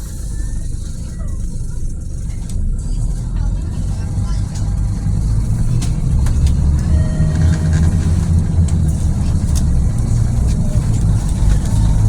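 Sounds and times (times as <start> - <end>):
bus diesel engine rumble: 0.0 - 12.0.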